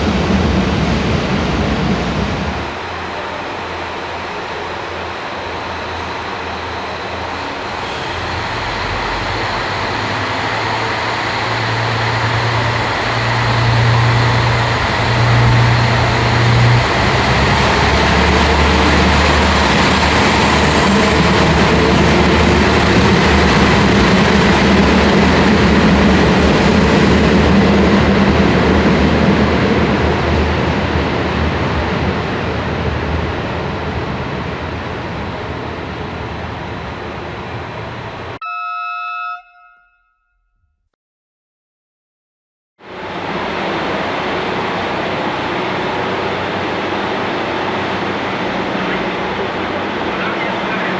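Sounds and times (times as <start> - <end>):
diesel railcar running past: 0.0 - 39.9, 42.8 - 50.9.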